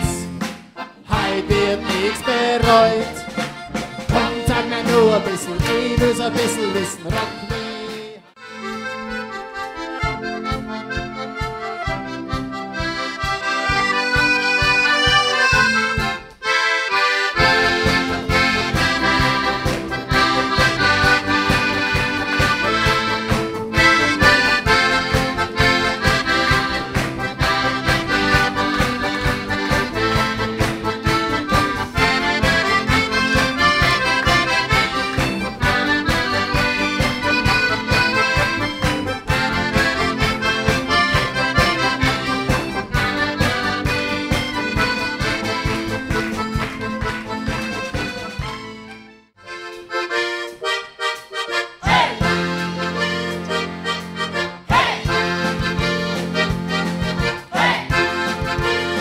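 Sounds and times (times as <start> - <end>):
accordion orchestra playing: 0.0 - 59.0.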